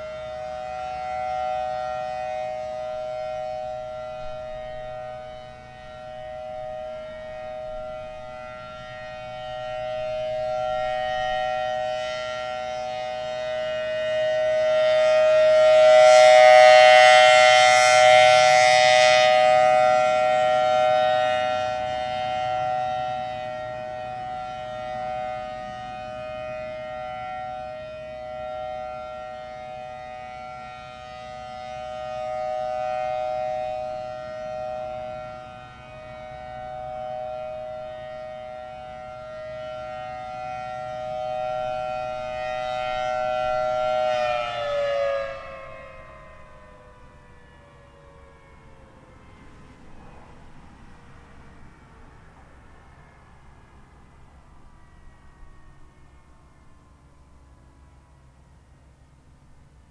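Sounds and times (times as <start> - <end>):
rotating outdoor warning siren: 0.0 - 59.9.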